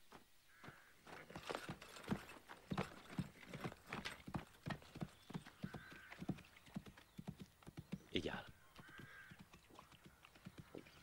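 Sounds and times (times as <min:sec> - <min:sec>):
horses' hooves clip-clopping: 0:00.1 - 0:11.0.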